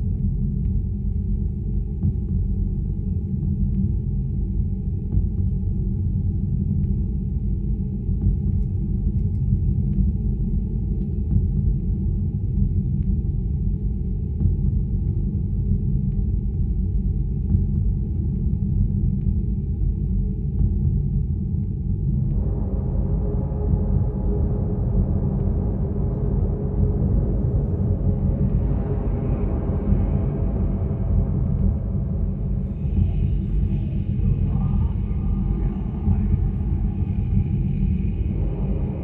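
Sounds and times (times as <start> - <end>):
low rumbling drone: 0.0 - 39.0.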